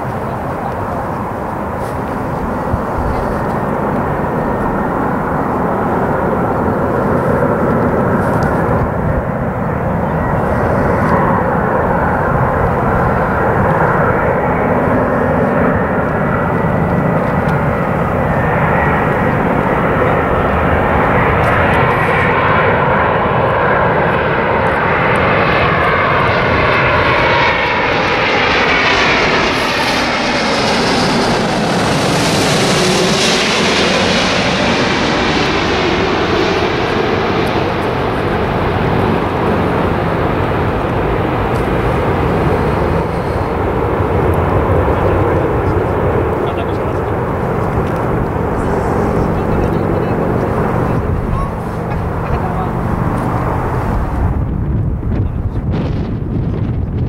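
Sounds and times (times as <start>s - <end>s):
jet airliner engines: 0.0s - 57.0s.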